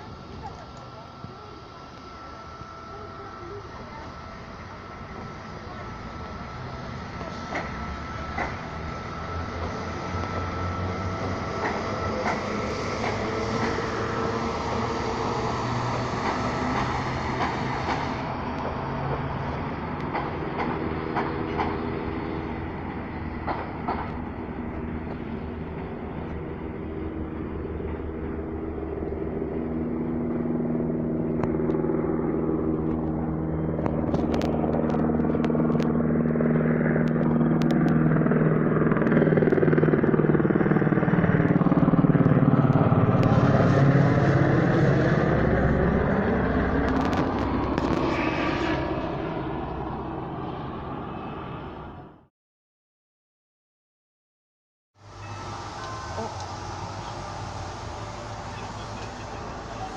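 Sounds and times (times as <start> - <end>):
train pulling away: 0.0 - 51.7, 55.0 - 59.9
helicopter engine and rotor: 0.0 - 52.1.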